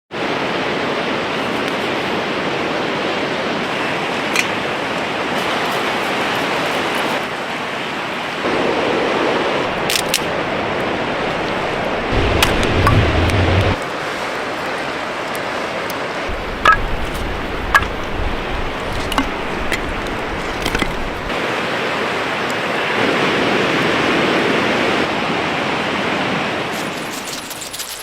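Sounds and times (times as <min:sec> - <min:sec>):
river water flowing: 0:00.2 - 0:28.0.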